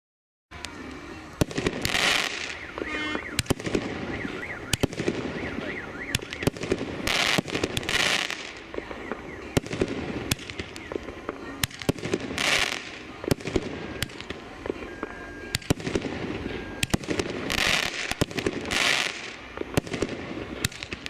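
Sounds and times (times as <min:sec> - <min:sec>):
fireworks launching and bursting: 0:00.5 - 0:21.0
fireworks hissing: 0:00.6 - 0:21.0.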